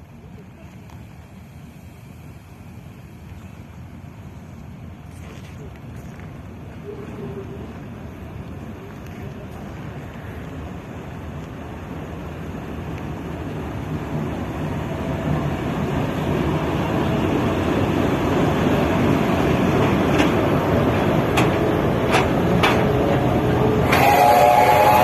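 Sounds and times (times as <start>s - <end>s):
passenger train rumbling past: 0.0s - 25.0s.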